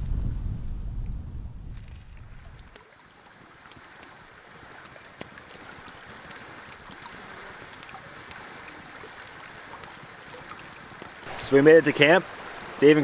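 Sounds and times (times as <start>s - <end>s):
river water running over rocks: 2.2s - 13.0s.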